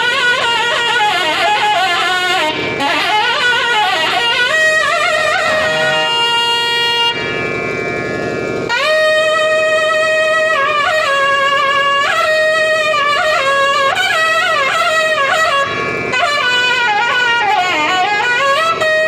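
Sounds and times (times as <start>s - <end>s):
reed wind instrument solo melody: 0.0s - 19.0s.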